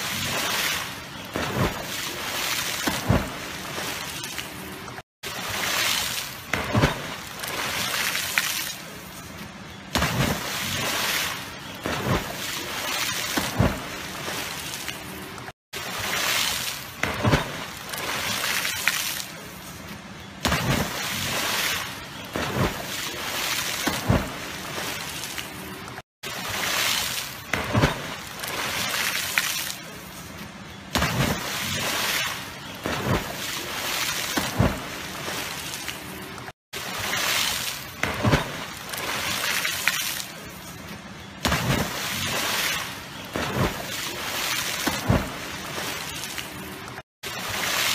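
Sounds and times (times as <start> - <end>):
water sloshing and churning: 0.0 - 47.9
water splashes: 0.0 - 47.9.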